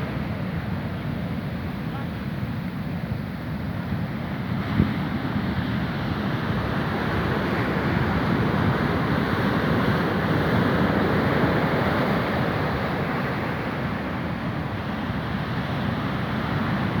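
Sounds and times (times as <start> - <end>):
sea waves: 0.0 - 17.0.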